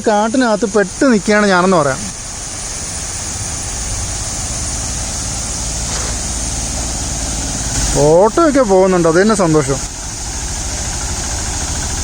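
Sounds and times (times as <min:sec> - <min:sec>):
auto-rickshaw engine rumbling: 0:00.0 - 0:12.0
steady hiss: 0:00.0 - 0:12.0.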